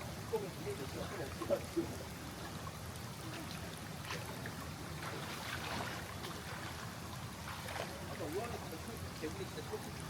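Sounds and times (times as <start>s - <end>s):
soft water splashes: 0.0s - 10.0s
stream water running: 0.0s - 10.0s.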